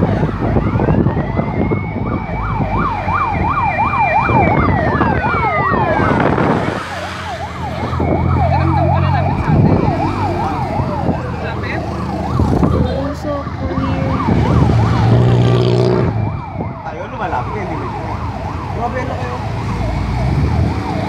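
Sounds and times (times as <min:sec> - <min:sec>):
siren wailing: 0:00.0 - 0:21.0
siren yelping: 0:00.0 - 0:21.0.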